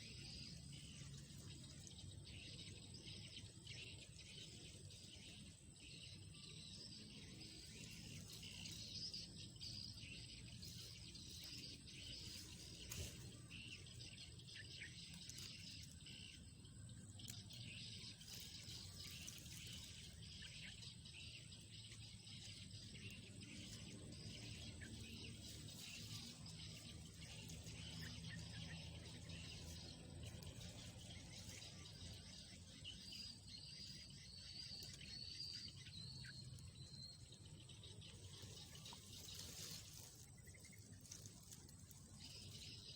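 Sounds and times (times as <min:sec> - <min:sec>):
bird calls: 0:00.0 - 0:42.9.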